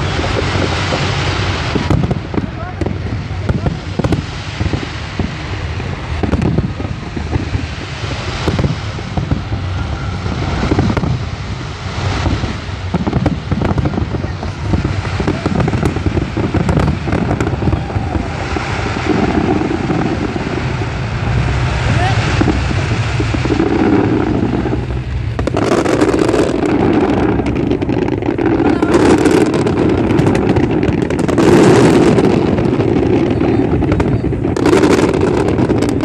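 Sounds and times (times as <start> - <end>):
fireworks bursting with bangs: 0.0 - 36.0.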